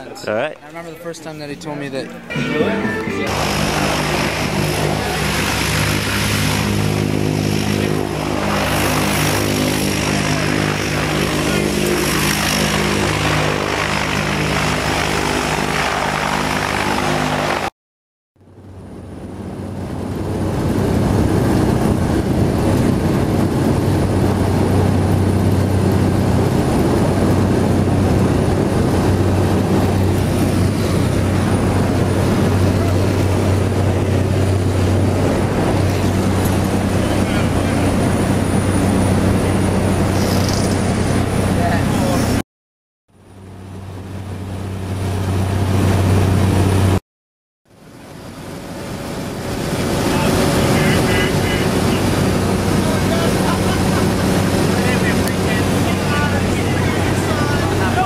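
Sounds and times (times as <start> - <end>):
propeller plane engine droning: 0.0 - 17.7, 18.4 - 42.4, 43.1 - 47.0, 47.7 - 58.0.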